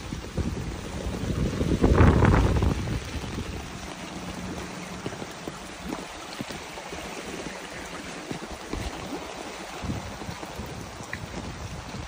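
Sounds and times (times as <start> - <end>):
floodwater rushing over street: 0.0 - 12.0.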